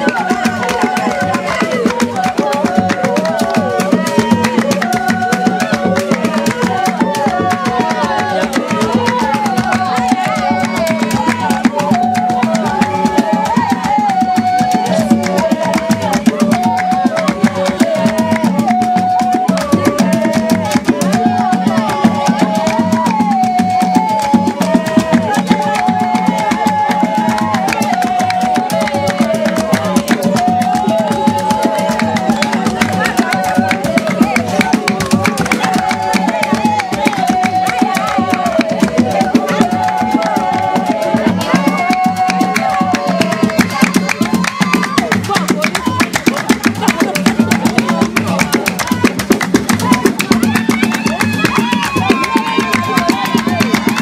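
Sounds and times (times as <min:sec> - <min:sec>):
fast continuous drumming: 0:00.0 - 0:54.0.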